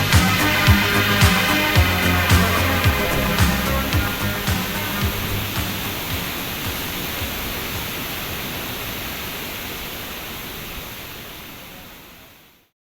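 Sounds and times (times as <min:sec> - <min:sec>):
waterfall rushing: 0:00.0 - 0:12.7.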